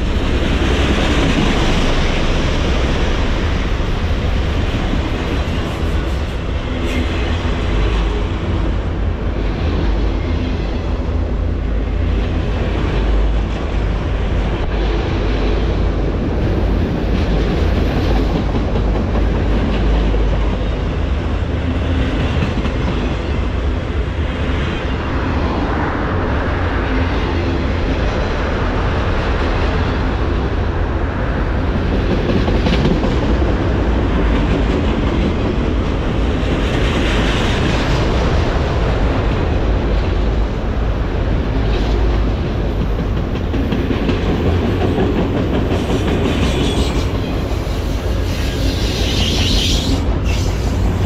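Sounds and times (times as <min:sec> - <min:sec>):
freight train cars rumbling: 0:00.0 - 0:51.0.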